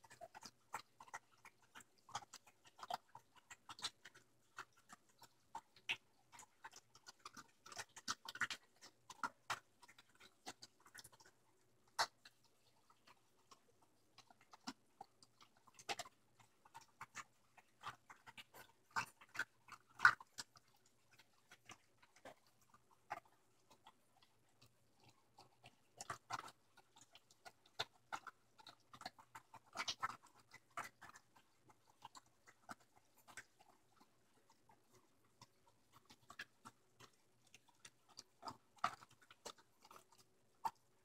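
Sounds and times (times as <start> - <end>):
dog crunching kibble: 0.0 - 41.0.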